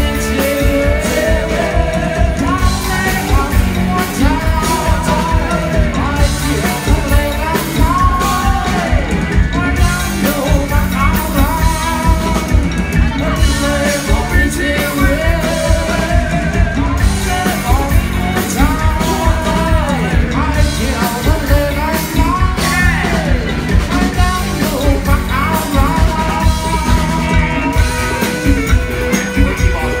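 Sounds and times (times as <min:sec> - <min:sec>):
live rock band playing: 0:00.0 - 0:30.0
person singing: 0:00.0 - 0:30.0.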